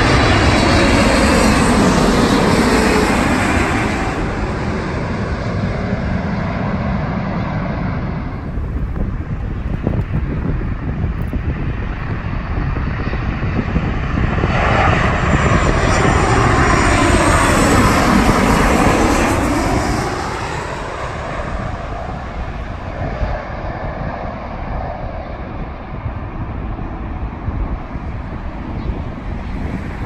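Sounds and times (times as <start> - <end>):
jet airliner passing overhead: 0.0 - 30.0.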